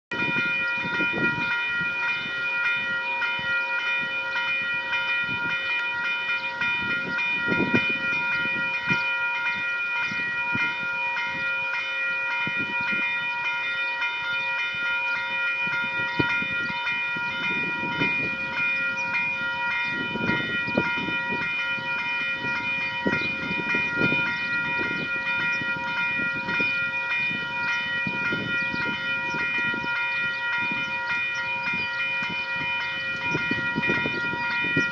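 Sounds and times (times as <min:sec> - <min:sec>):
level crossing warning bell: 0:00.1 - 0:34.9.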